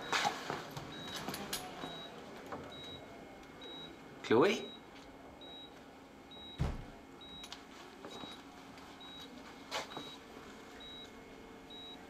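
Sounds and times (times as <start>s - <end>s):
patient monitor beeping: 0.0s - 12.0s.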